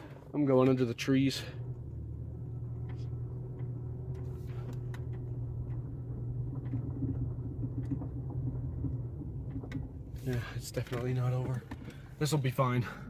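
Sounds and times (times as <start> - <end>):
car engine hum from inside: 0.0 - 13.0.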